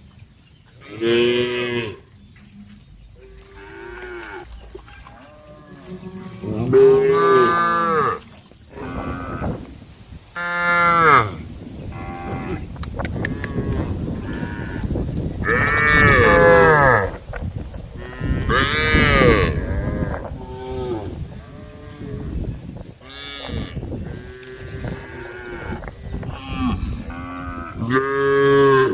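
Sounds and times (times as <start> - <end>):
cows mooing: 0.8 - 9.7, 10.4 - 17.2, 18.0 - 28.9.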